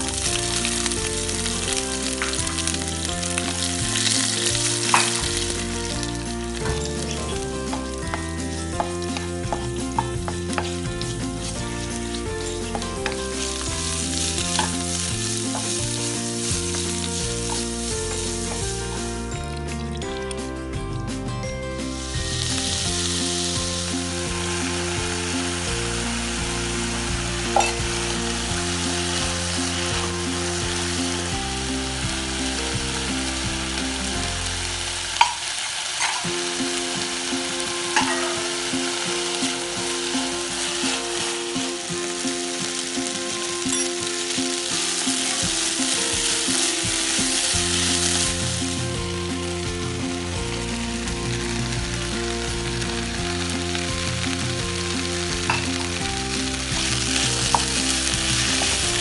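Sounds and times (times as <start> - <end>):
food sizzling in oil: 0.0 - 20.7, 21.6 - 59.0.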